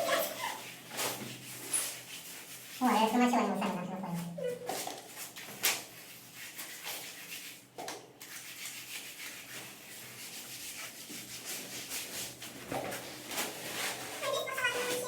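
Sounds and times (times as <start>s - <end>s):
wallpaper tearing and scraping: 0.0s - 3.1s, 4.2s - 15.0s.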